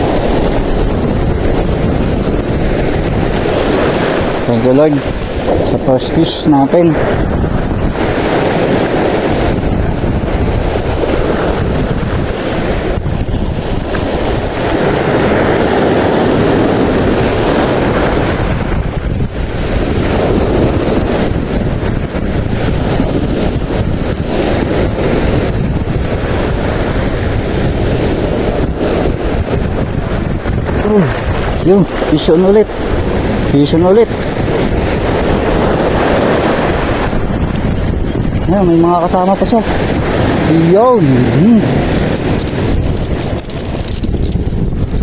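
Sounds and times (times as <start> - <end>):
sea waves rushing: 0.0 - 45.0
wind buffeting microphone: 0.0 - 45.0.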